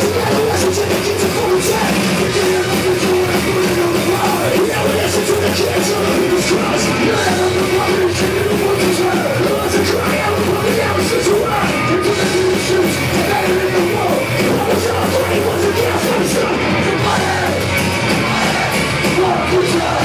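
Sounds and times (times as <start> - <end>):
drums and cymbals: 0.0 - 20.0
live punk rock band: 0.0 - 20.0
shouted vocals: 0.0 - 20.0.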